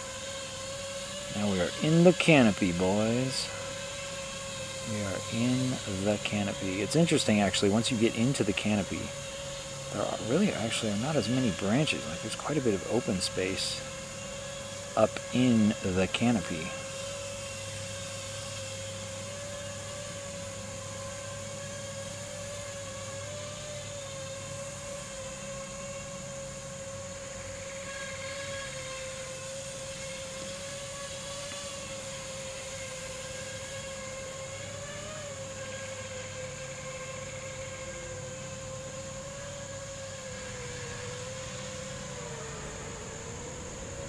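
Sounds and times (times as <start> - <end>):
quadcopter buzzing whine: 0.0 - 44.0.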